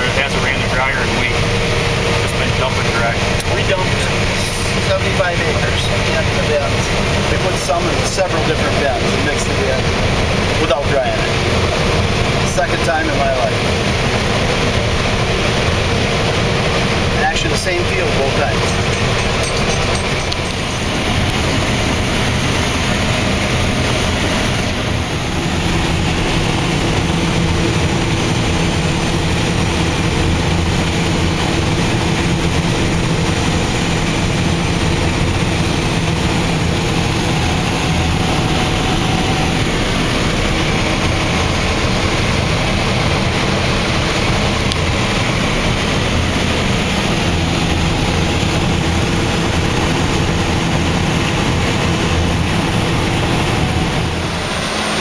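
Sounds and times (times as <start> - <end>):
combine engine and machinery drone: 0.0 - 55.0.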